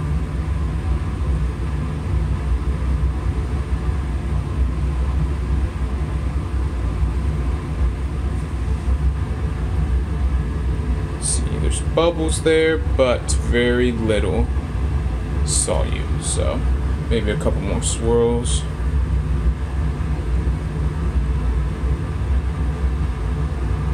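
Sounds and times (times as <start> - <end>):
ventilation rumble: 0.0 - 23.9.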